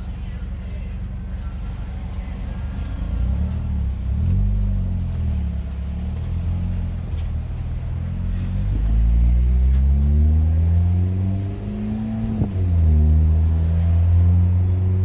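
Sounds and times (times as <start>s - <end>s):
car engine through exhaust: 0.0s - 15.0s.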